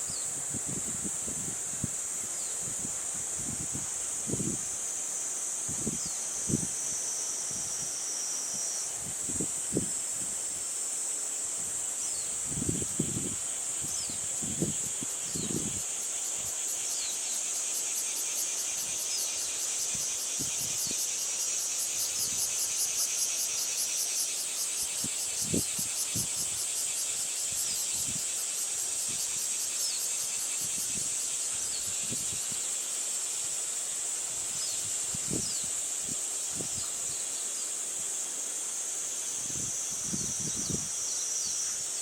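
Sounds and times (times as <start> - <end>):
insects chorus with pulsing trill: 0.0 - 42.0.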